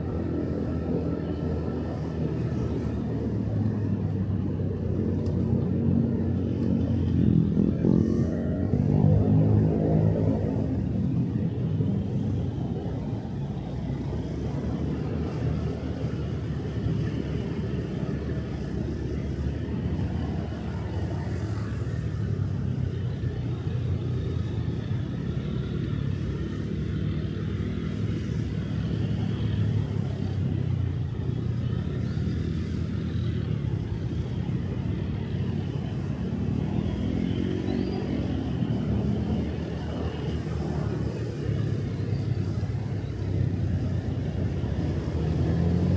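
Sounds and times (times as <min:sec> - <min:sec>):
road and wind noise: 0:00.0 - 0:45.9.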